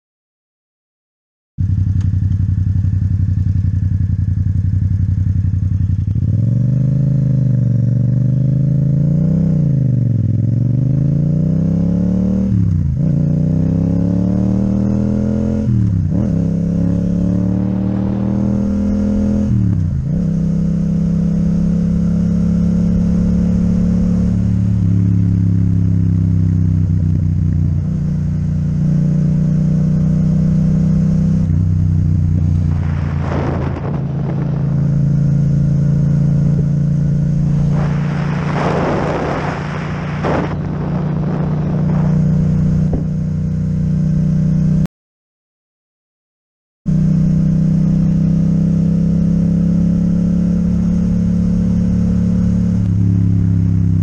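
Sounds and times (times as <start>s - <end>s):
motorcycle engine revving and shifting: 1.6s - 44.9s, 46.9s - 54.0s.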